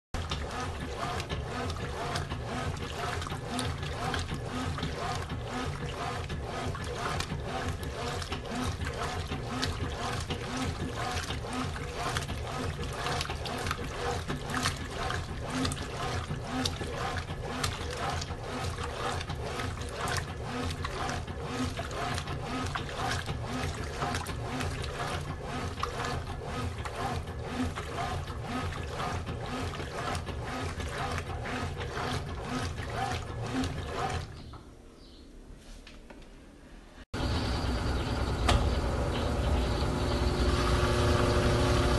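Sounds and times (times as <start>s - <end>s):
washing machine sloshing: 0.1s - 34.8s, 37.1s - 41.9s.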